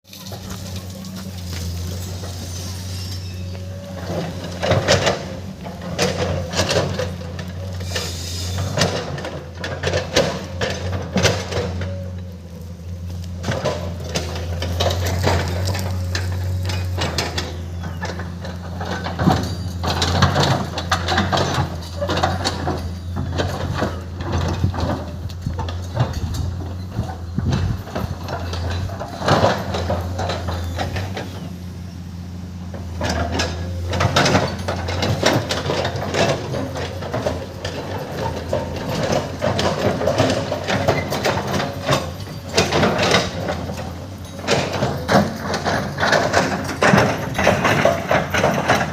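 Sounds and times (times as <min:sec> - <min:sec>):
metallic clanks and scrapes: 0:00.1 - 0:32.0, 0:32.7 - 0:48.9
excavator diesel engine droning: 0:00.1 - 0:48.9.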